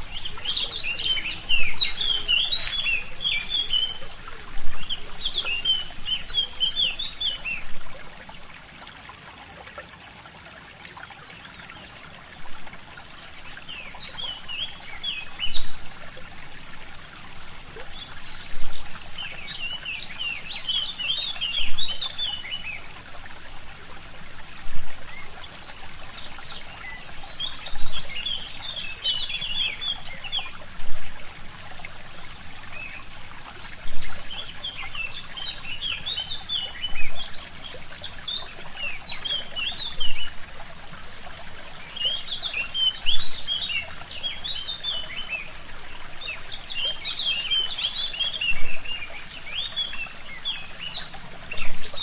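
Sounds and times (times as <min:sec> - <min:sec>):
songbirds chirping: 0:00.0 - 0:08.9, 0:12.5 - 0:52.0
trickling stream: 0:00.0 - 0:52.0.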